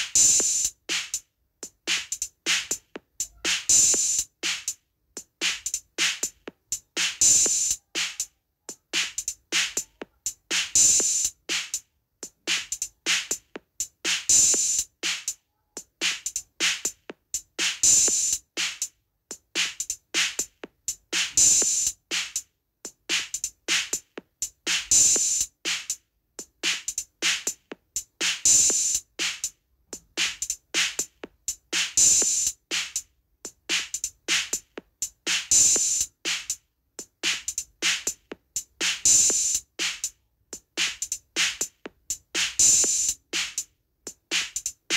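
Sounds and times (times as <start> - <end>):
rhythmic drumming: 0.0 - 44.9.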